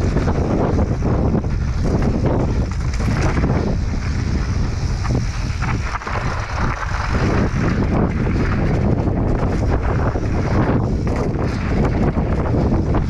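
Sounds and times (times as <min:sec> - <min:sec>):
bike tyres rumbling and rattling: 0:00.0 - 0:13.0
wind on microphone: 0:00.0 - 0:13.0.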